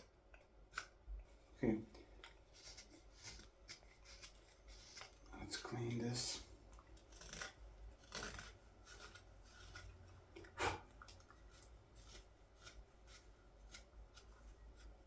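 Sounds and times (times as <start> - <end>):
knife shaving wood: 0.0 - 15.0.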